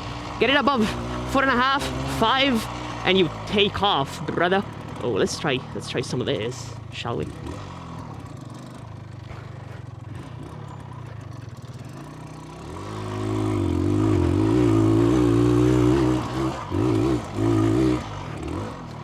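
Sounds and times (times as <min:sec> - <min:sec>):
motorcycle two-stroke engine revving: 0:00.0 - 0:19.0.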